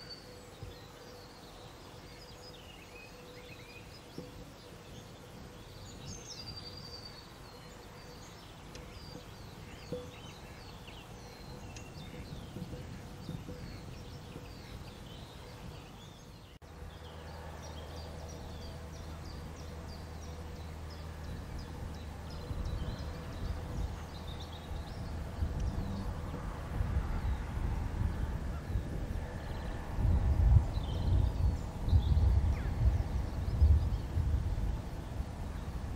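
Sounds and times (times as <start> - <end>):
low steady rumble: 0.0 - 35.9
songbirds singing and chirping: 0.0 - 35.9.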